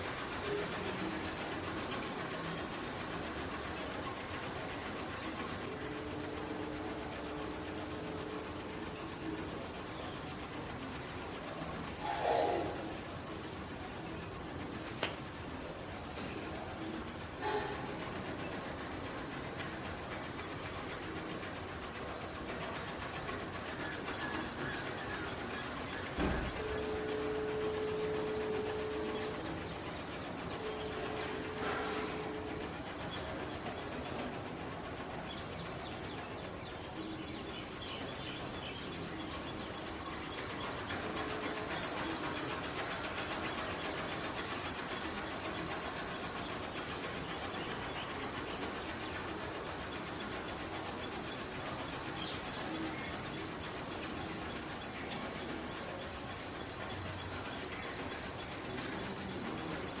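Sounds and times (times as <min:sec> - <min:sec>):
outdoor background hiss: 0:00.0 - 1:00.0.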